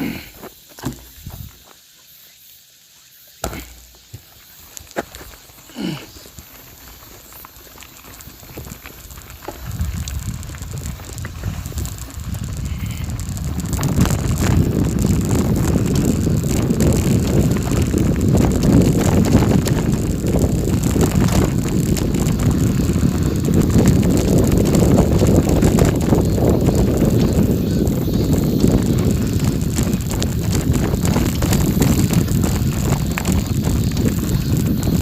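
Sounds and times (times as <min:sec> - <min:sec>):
wind buffeting microphone: 0:01.1 - 0:01.6, 0:06.4 - 0:35.0
rattling over rough surface: 0:04.8 - 0:35.0.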